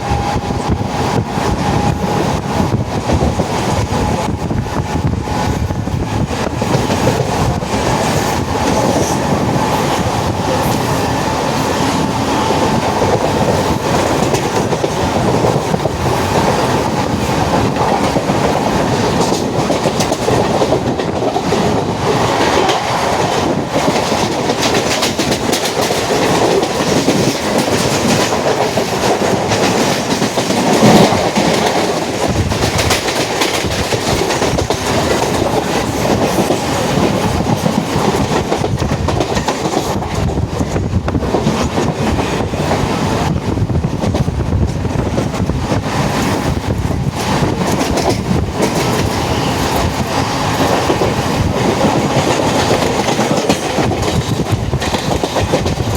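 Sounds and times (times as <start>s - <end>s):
clickety-clack over rail joints: 0.0s - 55.9s
train wheel and rail rumble: 0.0s - 55.9s.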